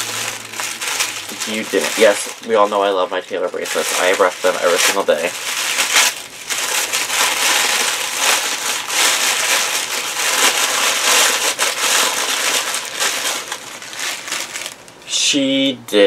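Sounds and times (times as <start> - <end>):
tissue paper rustling: 0.0 - 14.9.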